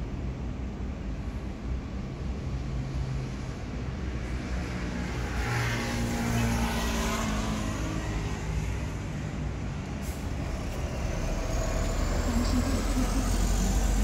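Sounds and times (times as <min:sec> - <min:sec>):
vehicle passing on road: 0:01.8 - 0:14.0.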